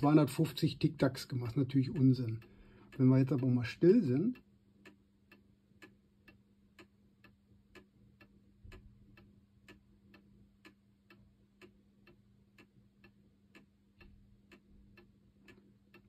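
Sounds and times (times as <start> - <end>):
wall clock ticking: 0.0 - 16.0.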